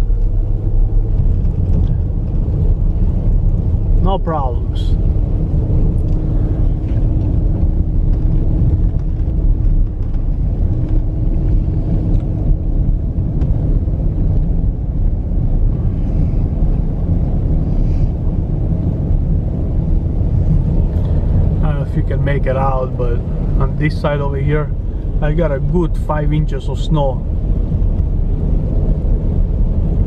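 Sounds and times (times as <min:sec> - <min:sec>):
car engine low rumble: 0:00.0 - 0:30.0
tyres on slushy road: 0:00.0 - 0:30.0.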